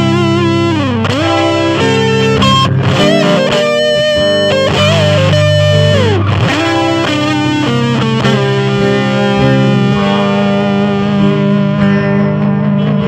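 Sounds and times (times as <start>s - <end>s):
fuzzed electric guitar notes: 0.0s - 13.0s.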